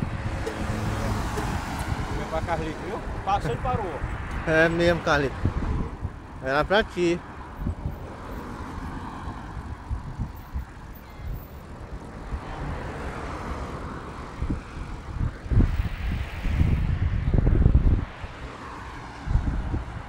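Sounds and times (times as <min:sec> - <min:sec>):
cars passing whoosh: 0:00.0 - 0:20.0
wind buffeting microphone: 0:00.0 - 0:20.0.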